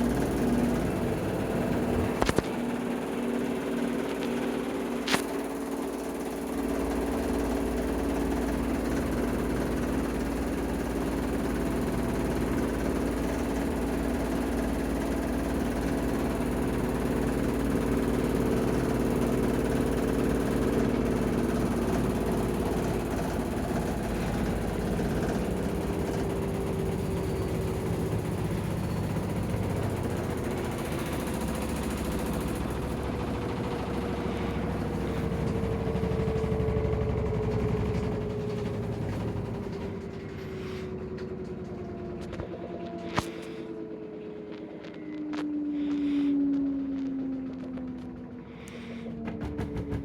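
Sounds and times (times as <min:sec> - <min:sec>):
washing machine spinning: 0:00.0 - 0:44.2, 0:49.1 - 0:50.0.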